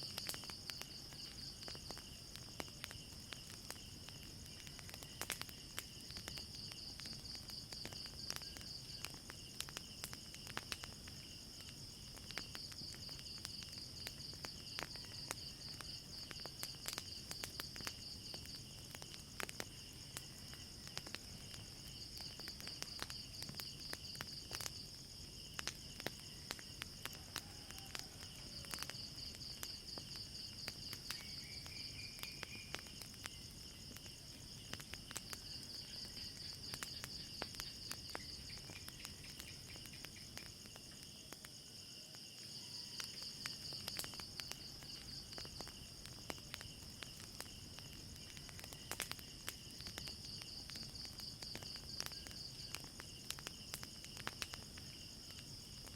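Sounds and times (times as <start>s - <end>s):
crickets trilling: 0.0s - 55.9s
wood fire crackling: 0.0s - 55.9s.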